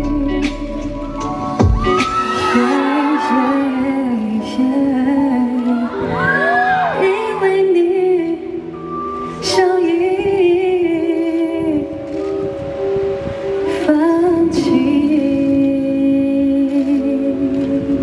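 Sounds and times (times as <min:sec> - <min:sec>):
woman singing: 0:00.0 - 0:12.6, 0:13.6 - 0:18.0
pop backing track: 0:00.0 - 0:18.0.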